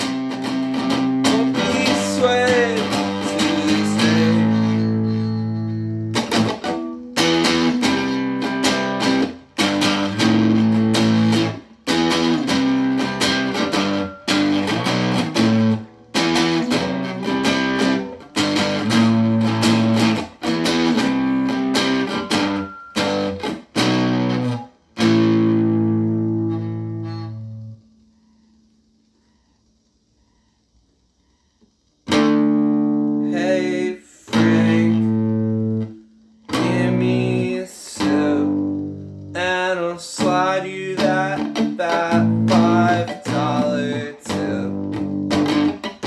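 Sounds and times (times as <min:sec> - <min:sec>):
electric guitar strumming chords: 0:00.0 - 0:28.0, 0:32.0 - 0:46.0.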